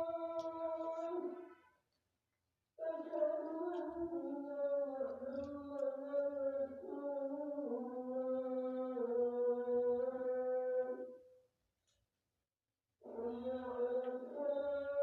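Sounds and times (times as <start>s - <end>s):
chant-like vocal music: 0.0s - 1.7s, 2.8s - 11.4s, 13.0s - 15.0s.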